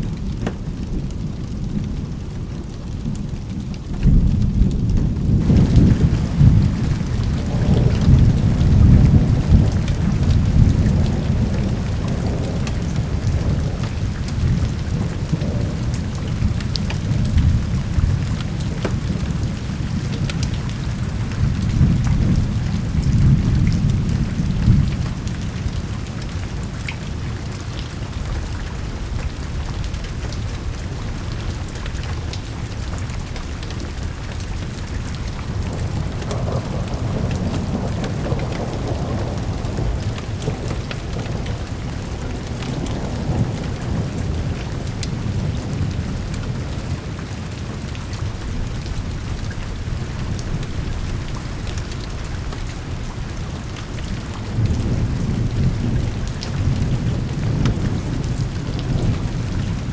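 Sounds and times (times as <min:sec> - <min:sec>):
rolling thunder: 0:00.0 - 0:59.9
steady rain: 0:00.0 - 0:59.9.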